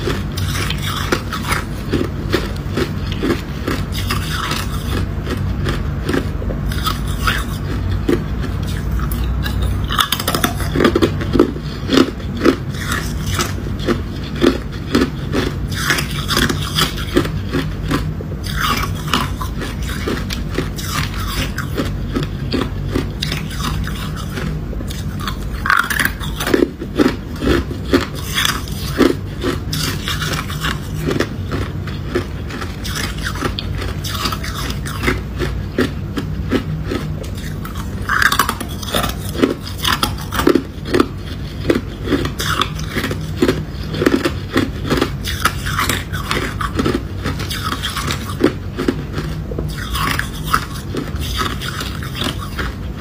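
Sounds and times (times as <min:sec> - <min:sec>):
ice being chewed: 0:00.0 - 0:53.0.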